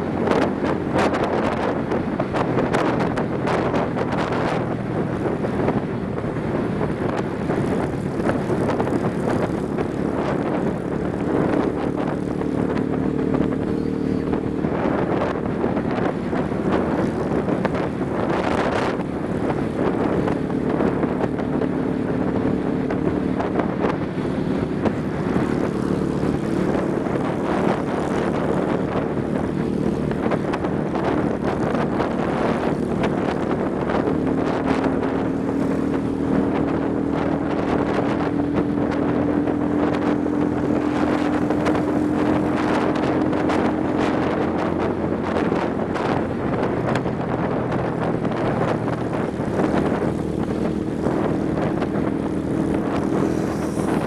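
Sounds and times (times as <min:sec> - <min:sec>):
motorcycle engine hum: 0:00.0 - 0:54.0
wind rushing on microphone: 0:00.0 - 0:54.0.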